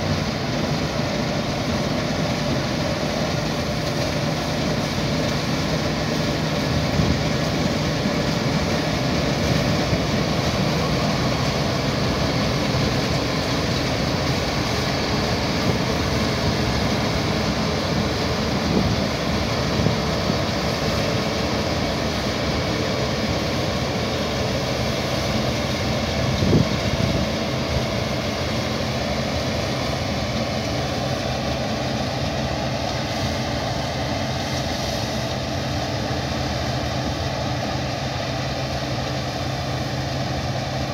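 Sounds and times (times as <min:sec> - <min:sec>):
combine harvester roar: 0:00.0 - 0:40.9.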